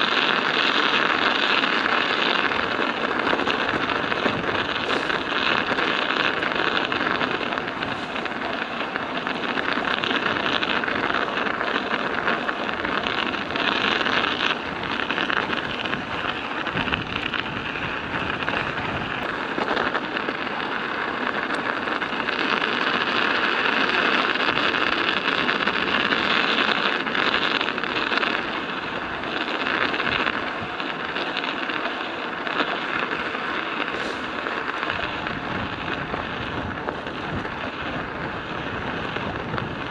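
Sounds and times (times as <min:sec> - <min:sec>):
studded tyres crunching on ice: 0:00.0 - 0:39.9.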